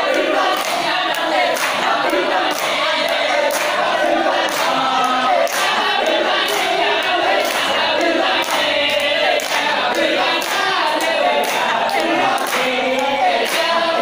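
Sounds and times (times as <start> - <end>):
men chanting together: 0.0 - 14.0
sharp hand claps: 0.1 - 3.8, 4.4 - 13.8.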